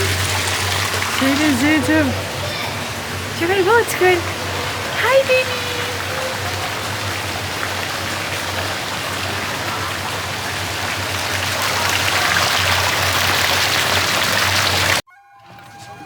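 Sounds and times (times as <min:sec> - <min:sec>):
falling water rushing: 0:00.0 - 0:15.0.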